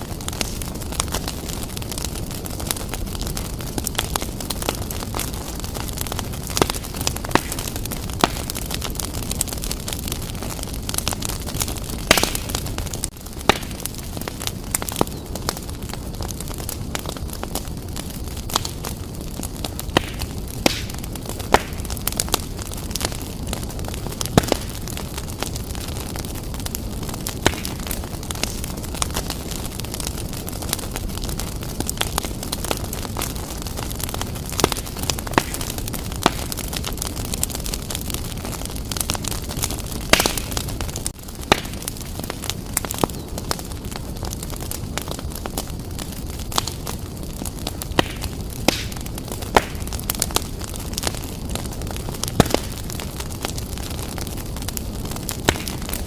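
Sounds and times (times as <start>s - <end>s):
fire flames rumbling: 0.0s - 56.0s
logs crackling and popping: 0.0s - 56.0s.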